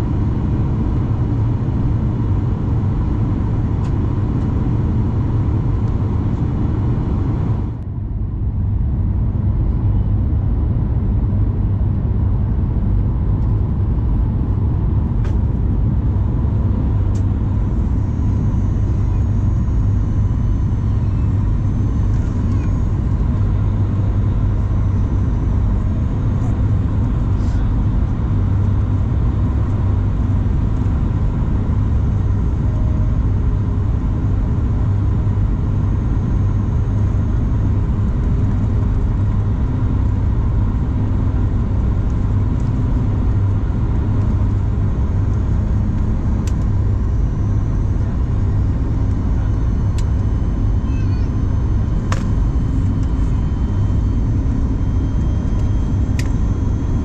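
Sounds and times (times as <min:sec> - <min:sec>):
airplane cabin rumble: 0:00.0 - 0:57.0
faint steady hum: 0:00.0 - 0:57.0.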